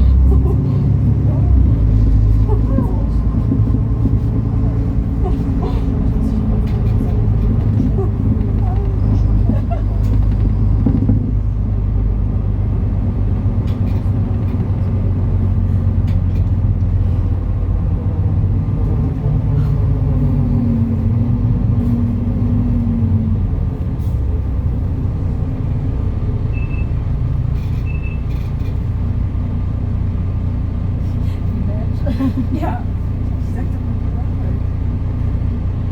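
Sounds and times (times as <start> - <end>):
bus diesel engine running: 0.0 - 35.9.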